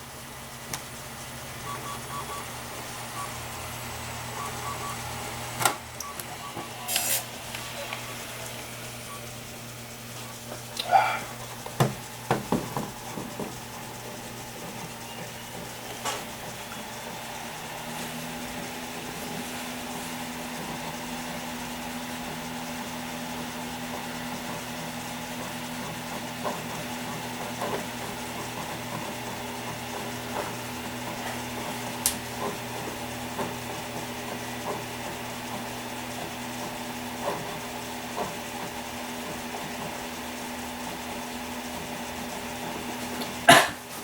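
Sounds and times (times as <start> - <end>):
computer fans humming: 0.0 - 44.0.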